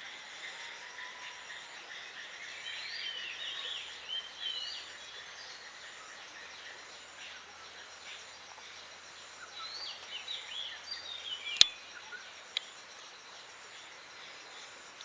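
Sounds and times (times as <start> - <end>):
faint insect buzz: 0.0 - 15.0.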